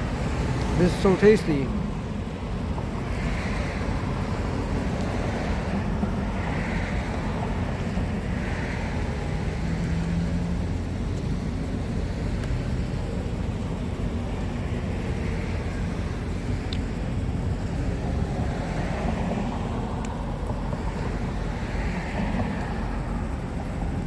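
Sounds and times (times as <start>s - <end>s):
low engine rumble: 0.0s - 24.0s
outdoor background noise: 0.0s - 24.0s.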